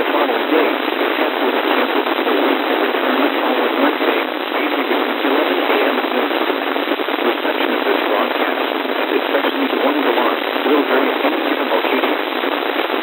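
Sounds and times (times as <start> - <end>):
radio static hiss and crackle: 0.0 - 13.0.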